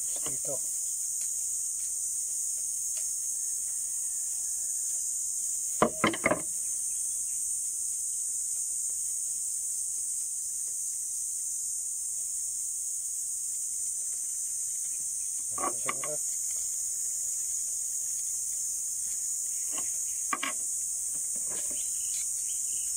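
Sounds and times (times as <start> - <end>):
high-pitched insect chorus: 0.0 - 22.9.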